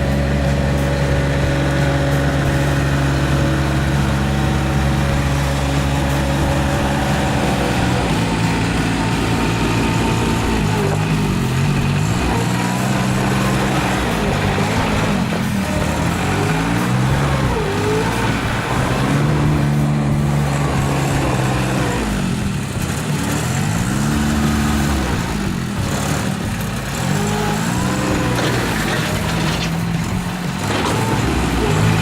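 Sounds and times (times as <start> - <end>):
mini loader diesel engine running: 0.0 - 32.0.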